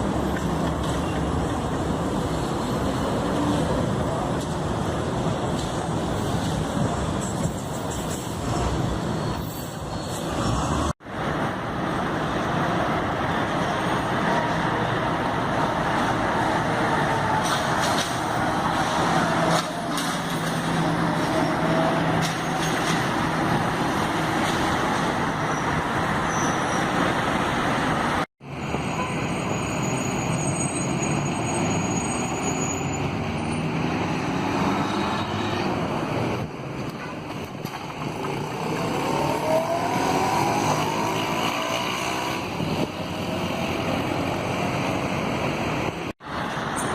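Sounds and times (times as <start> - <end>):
heavy bus passing: 0.0 - 46.9
road traffic: 0.0 - 46.9.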